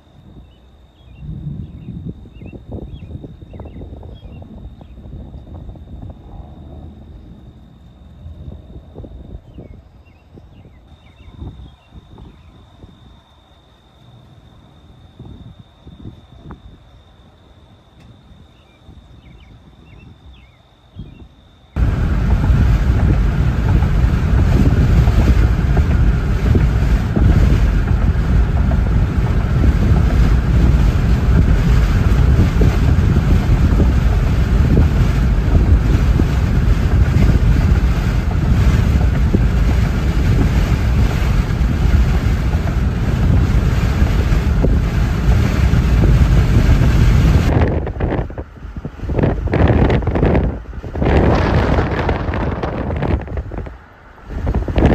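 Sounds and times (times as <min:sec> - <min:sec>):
wind buffeting microphone: 0:01.1 - 0:13.2, 0:21.0 - 0:54.9.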